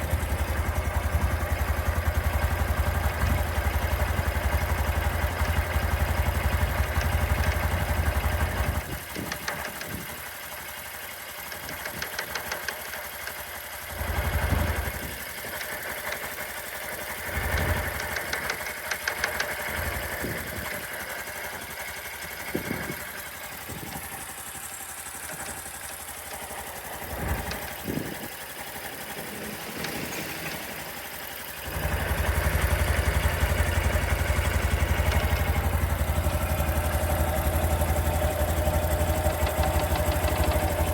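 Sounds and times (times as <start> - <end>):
motorcycle engine idling with rattling tick: 0.0 - 40.9.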